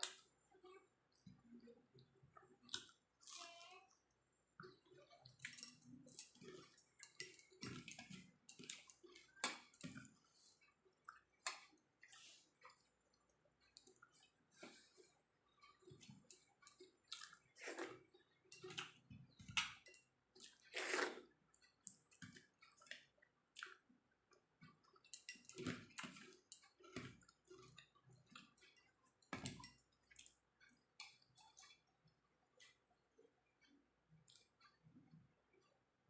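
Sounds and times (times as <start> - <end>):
soft squishes of food: 0.0 - 36.0.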